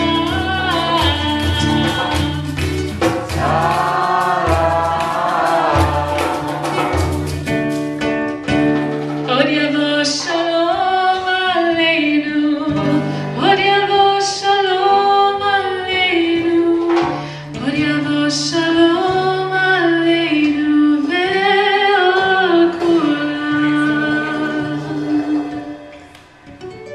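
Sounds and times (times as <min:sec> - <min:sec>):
woman singing: 0:00.0 - 0:07.6, 0:09.3 - 0:26.6
guitar accompaniment: 0:00.0 - 0:26.9.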